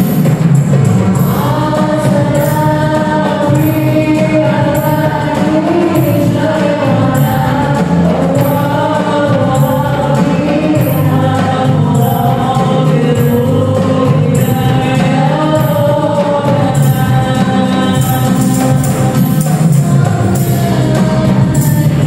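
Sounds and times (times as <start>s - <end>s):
keyboard: 0.0s - 22.0s
steady percussion beat: 0.0s - 22.0s
voices singing a melody: 0.0s - 22.0s.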